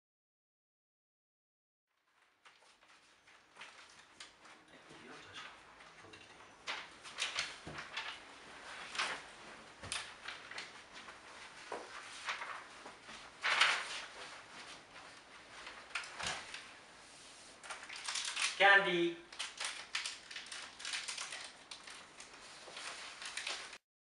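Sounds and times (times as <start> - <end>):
handling and rustling: 2.0 - 18.6, 19.4 - 23.8.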